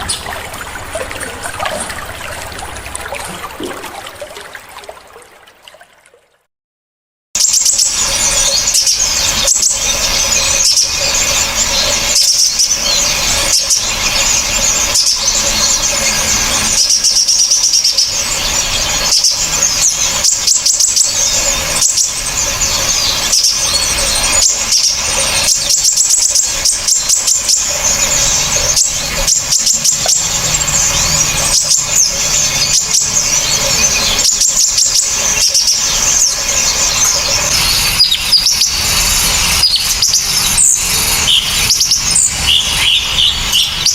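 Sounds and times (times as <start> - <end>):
songbirds chattering and trilling: 7.4 - 43.9.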